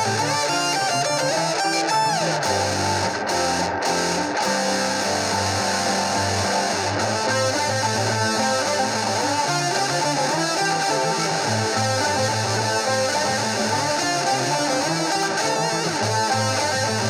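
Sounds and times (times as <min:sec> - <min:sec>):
electric guitar lead: 0:00.0 - 0:17.0.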